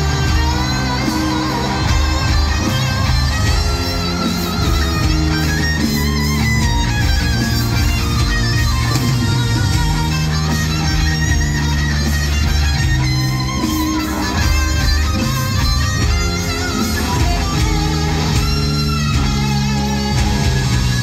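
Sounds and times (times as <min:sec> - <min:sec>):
electric guitar lead with vibrato: 0:00.0 - 0:21.0
rock band playing live: 0:00.0 - 0:21.0.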